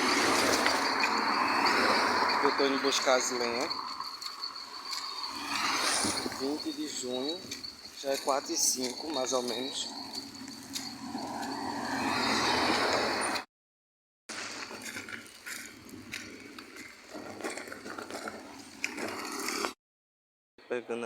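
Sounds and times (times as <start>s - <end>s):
wheelbarrow rattling over rough ground: 0.0s - 13.2s, 14.3s - 19.7s.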